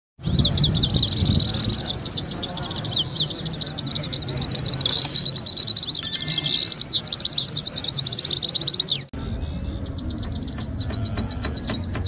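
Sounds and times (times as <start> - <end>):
goldfinches twittering and trilling: 0.2 - 12.0.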